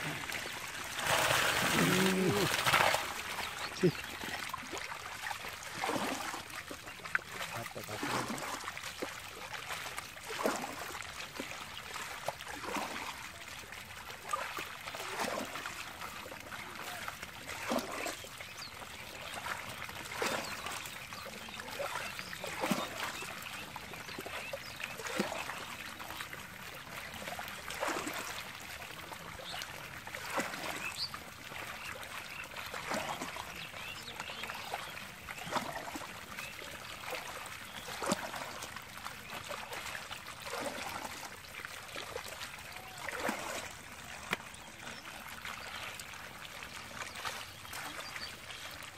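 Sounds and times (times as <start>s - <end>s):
splashing water: 0.0s - 48.9s
water trickling: 0.0s - 48.9s.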